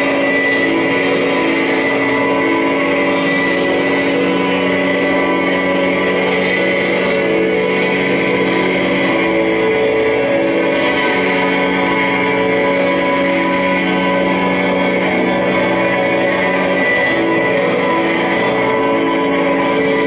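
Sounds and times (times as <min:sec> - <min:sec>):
droning electric guitar tones: 0:00.0 - 0:20.0.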